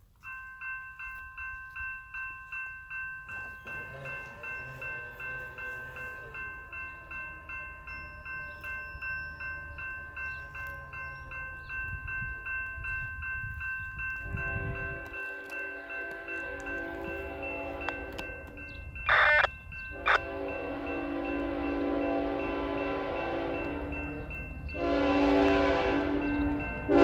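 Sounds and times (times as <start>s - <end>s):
railroad crossing bell ringing: 0.0s - 27.0s.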